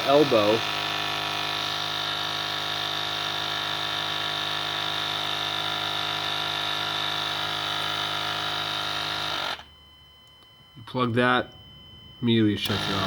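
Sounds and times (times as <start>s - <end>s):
vacuum pump humming: 0.0s - 10.1s, 11.6s - 13.0s.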